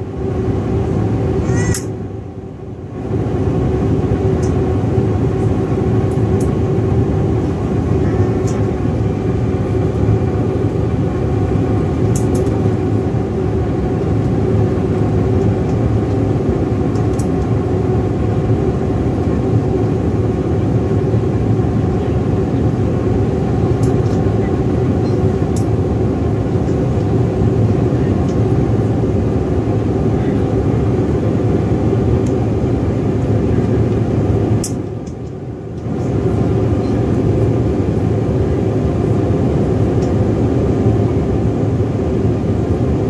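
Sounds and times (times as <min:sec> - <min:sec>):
jet engines droning in cabin: 0:00.0 - 0:43.0.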